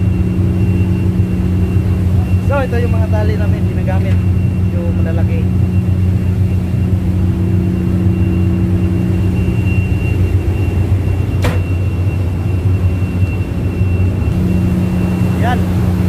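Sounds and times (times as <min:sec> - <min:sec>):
faint high whine: 0:00.0 - 0:16.0
ship engine drone: 0:00.0 - 0:16.0.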